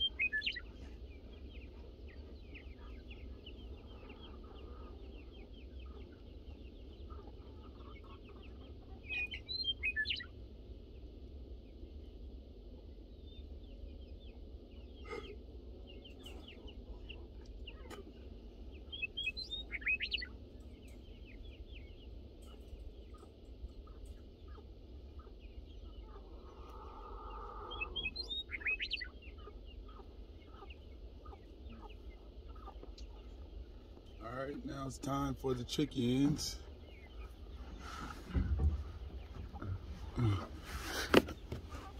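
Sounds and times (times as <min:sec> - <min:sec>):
chickens chirping: 0:00.0 - 0:41.9.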